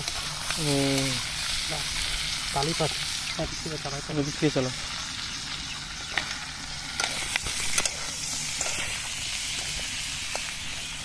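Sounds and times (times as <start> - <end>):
fire pops and crackles: 0.0 - 11.0
potatoes sizzling in a wok: 0.0 - 11.0.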